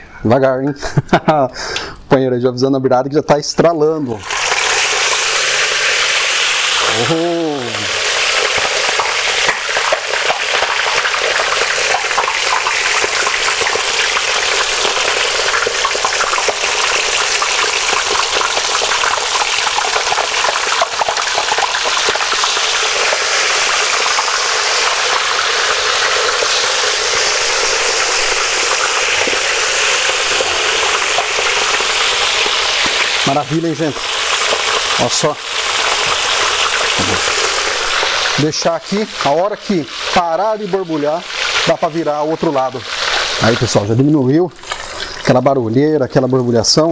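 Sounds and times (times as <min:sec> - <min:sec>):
fish deep-frying in oil: 0:04.2 - 0:46.9.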